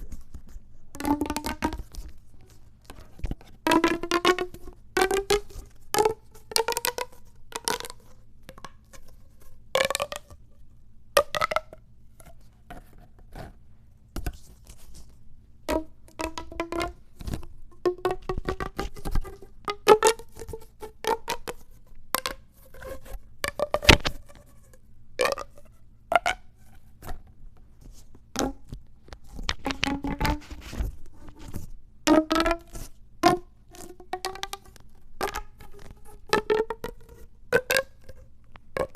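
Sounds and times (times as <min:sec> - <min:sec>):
plastic tubes popping: 0:00.0 - 0:10.4, 0:11.2 - 0:13.6, 0:14.2 - 0:38.9.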